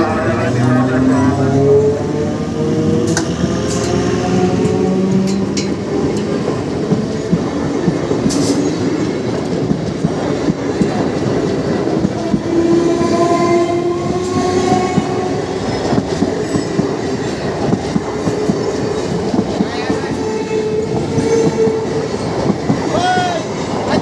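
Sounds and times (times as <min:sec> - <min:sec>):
train whine: 0:00.0 - 0:24.0
train wheels clattering: 0:03.0 - 0:24.0.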